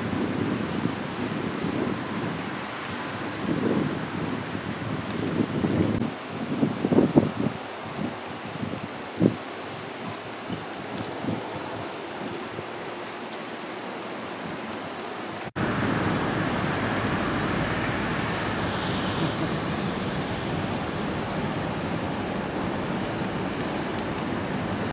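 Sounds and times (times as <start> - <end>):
wind on microphone: 0.0 - 13.6, 14.2 - 24.9
river water rushing: 0.0 - 24.9.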